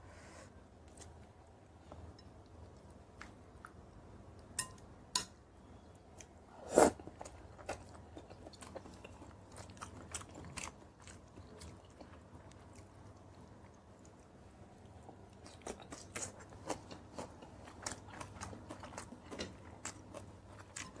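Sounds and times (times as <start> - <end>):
person chewing food: 0.8 - 4.9, 6.1 - 21.0.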